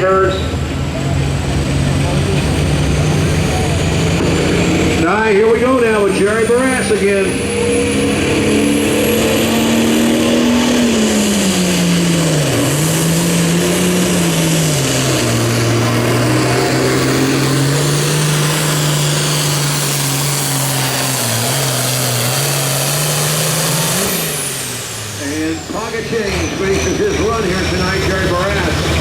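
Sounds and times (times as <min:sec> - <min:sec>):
diesel tractor engine under load: 0:00.0 - 0:29.0.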